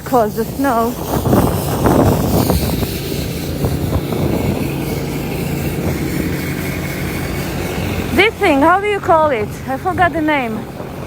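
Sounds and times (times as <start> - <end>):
vehicle engine running: 0.0 - 11.0
wind buffeting microphone: 0.0 - 11.0.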